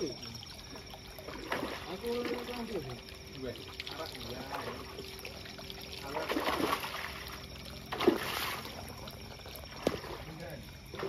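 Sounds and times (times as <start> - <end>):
fish splashing at water surface: 0.0 - 11.0.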